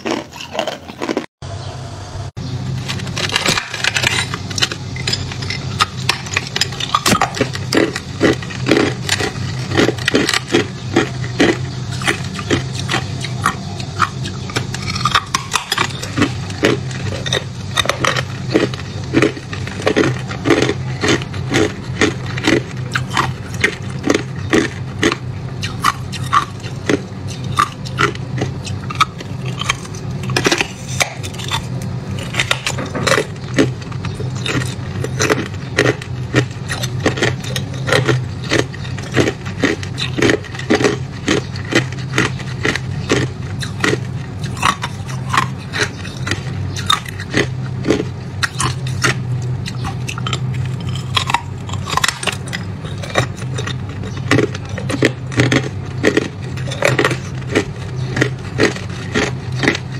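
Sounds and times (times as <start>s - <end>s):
teeth crunching ice: 0.0s - 1.3s, 2.8s - 59.9s
low steady hum: 0.0s - 59.9s.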